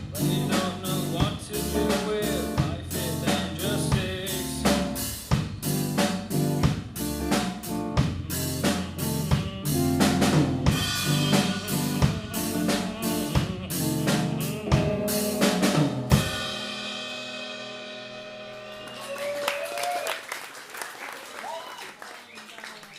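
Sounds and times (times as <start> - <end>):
guitar and bass notes: 0.0 - 19.2
drum kit beat: 0.0 - 19.4.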